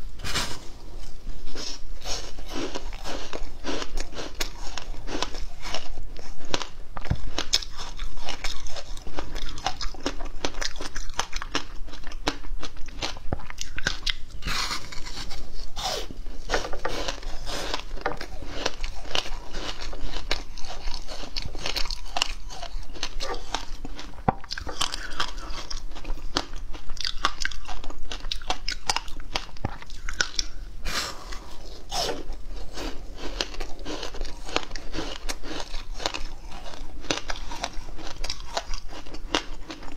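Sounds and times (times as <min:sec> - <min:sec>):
ice crunching between teeth: 0:01.6 - 0:30.6, 0:31.9 - 0:39.9.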